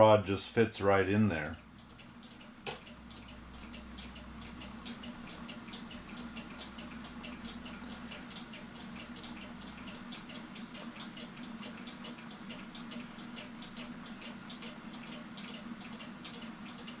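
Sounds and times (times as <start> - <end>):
low electrical hum: 0.0 - 17.0
clock ticking rapidly: 1.2 - 17.0.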